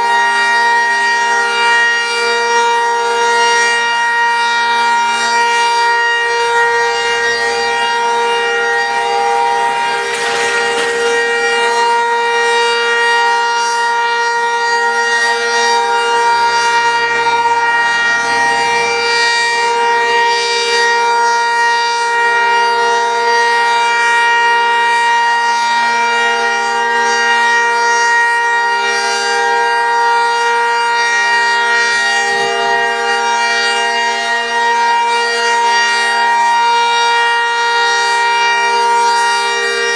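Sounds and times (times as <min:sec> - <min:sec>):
tornado warning siren: 0:00.0 - 0:39.9.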